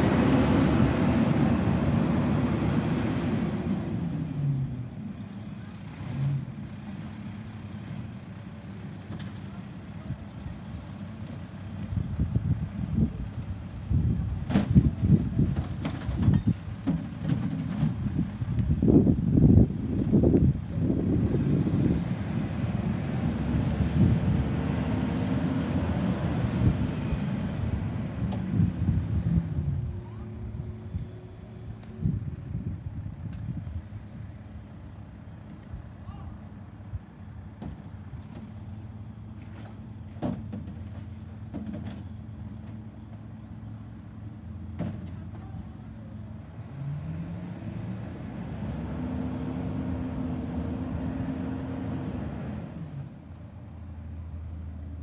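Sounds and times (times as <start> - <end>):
garbage truck engine rumble: 0.0 - 55.0.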